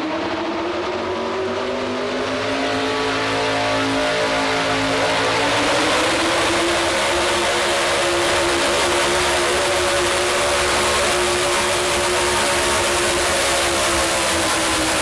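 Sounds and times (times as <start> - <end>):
truck engine at full throttle: 0.0 - 15.0.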